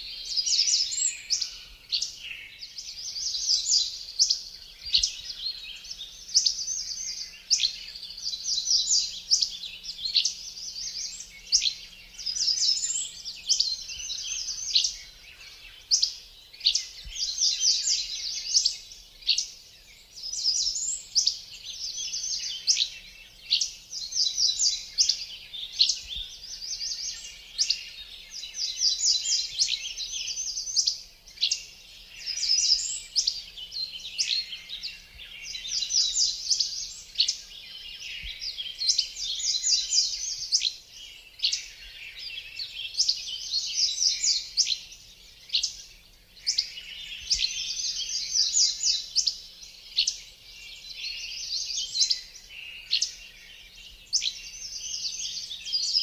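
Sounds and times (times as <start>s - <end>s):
songbird chorus trilling: 0.0s - 56.0s.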